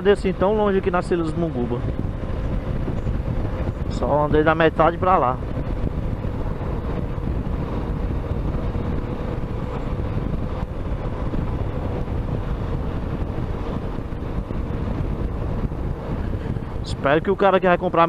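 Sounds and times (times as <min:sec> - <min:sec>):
motorcycle engine running: 0:00.0 - 0:17.9
wind rushing over microphone: 0:00.0 - 0:18.0.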